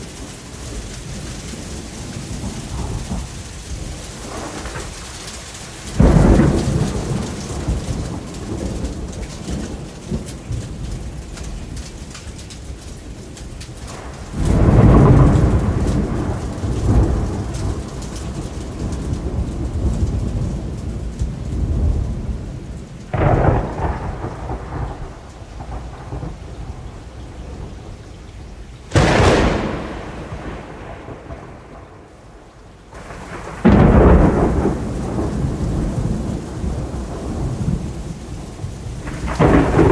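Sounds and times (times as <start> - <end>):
steady rain: 0.0 - 39.9
thunderclaps rumbling: 0.0 - 39.9.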